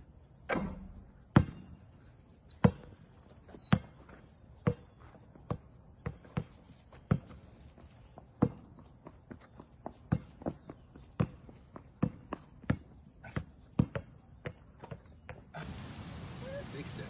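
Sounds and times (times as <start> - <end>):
basketballs bouncing on asphalt: 1.1 - 16.2.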